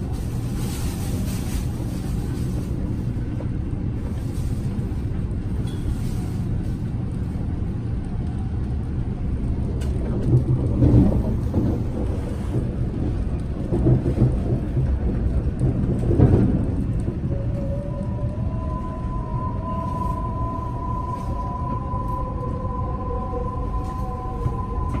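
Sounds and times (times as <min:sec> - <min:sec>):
train carriage rumble and hum: 0:00.0 - 0:25.0.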